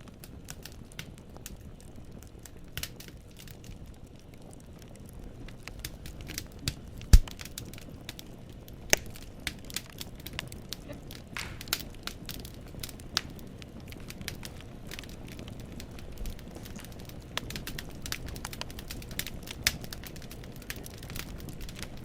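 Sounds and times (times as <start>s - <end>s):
fire burning: 0.0s - 22.0s
fire hissing: 0.0s - 22.0s
logs crackling and popping: 0.0s - 22.0s.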